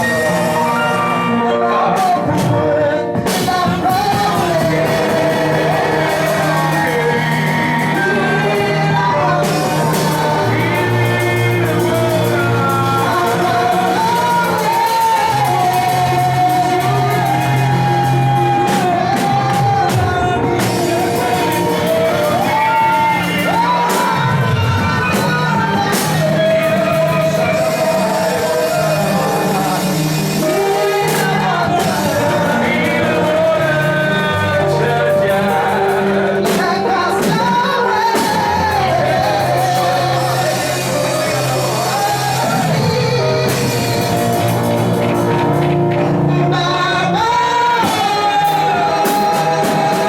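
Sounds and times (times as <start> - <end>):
band with bass and drums: 0.0 - 50.0
voices singing a melody: 0.0 - 50.0.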